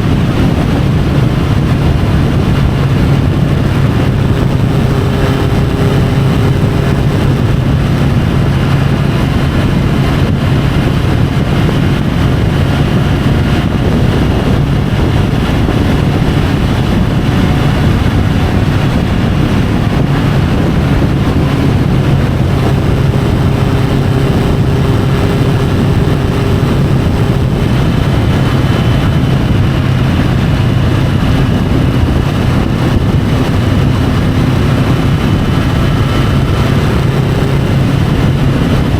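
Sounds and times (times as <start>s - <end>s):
motorcycle engine cruising: 0.0s - 38.9s
wind noise: 0.0s - 38.9s.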